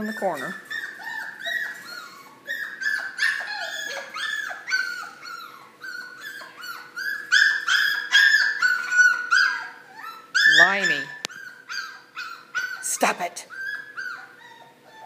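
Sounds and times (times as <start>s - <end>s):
puppies yipping and whining: 0.0s - 15.0s.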